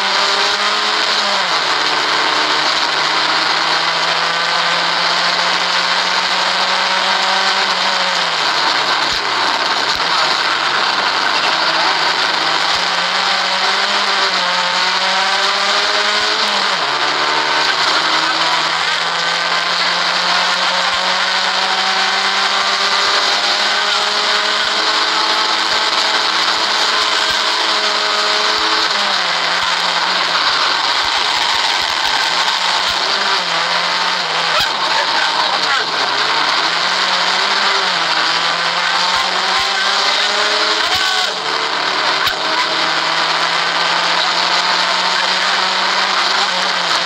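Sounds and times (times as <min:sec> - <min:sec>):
rally car engine revving: 0:00.0 - 0:47.0
road and wind noise: 0:00.0 - 0:47.0.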